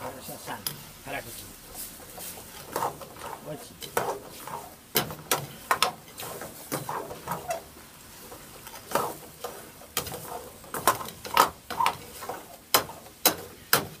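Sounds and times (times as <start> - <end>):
ladle stirring thick curry: 0.0 - 14.0.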